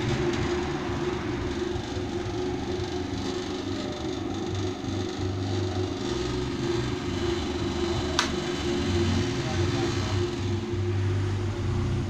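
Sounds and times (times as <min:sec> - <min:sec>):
oil spinner motor humming: 0:00.0 - 0:12.0.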